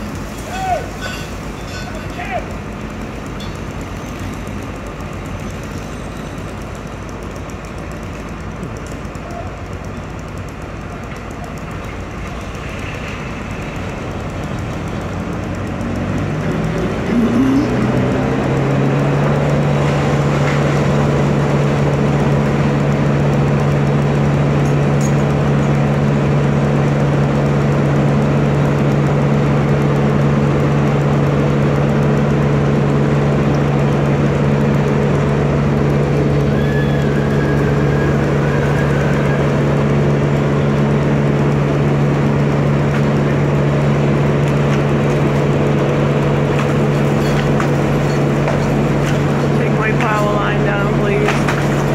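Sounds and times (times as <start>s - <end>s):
engine running at high speed: 1.2s - 51.9s.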